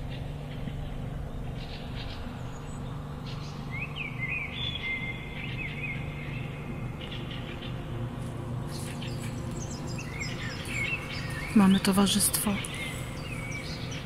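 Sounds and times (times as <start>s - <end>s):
low background rumble: 0.0s - 14.0s
songbird singing: 0.0s - 14.0s.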